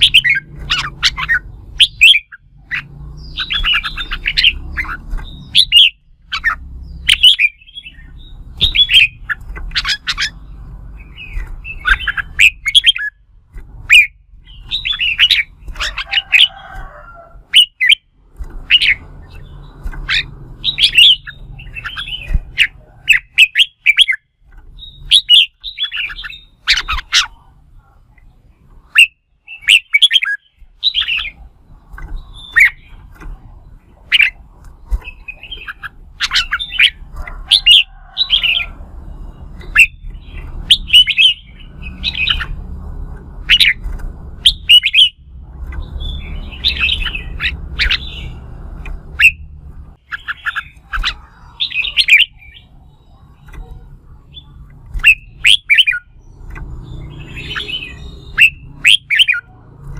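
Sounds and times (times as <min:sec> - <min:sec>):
bird whistling song: 0:00.0 - 0:13.2, 0:13.8 - 0:27.5, 0:28.9 - 0:31.5, 0:32.1 - 0:33.2, 0:34.0 - 0:42.6, 0:43.4 - 0:59.6.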